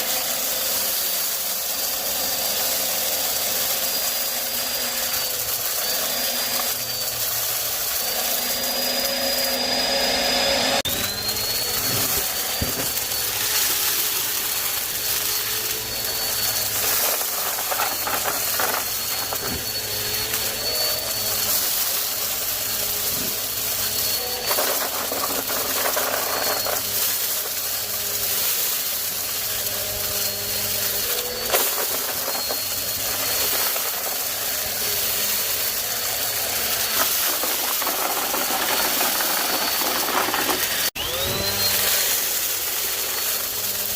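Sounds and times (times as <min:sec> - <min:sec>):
debris rattling in vacuum: 0:00.0 - 0:09.7, 0:10.8 - 0:43.9
vacuum cleaner running: 0:00.0 - 0:43.9.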